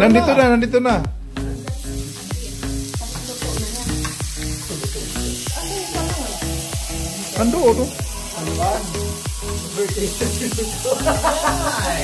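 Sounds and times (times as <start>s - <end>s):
background music: 0.0s - 12.0s
meat sizzling on a grill pan: 1.4s - 12.0s.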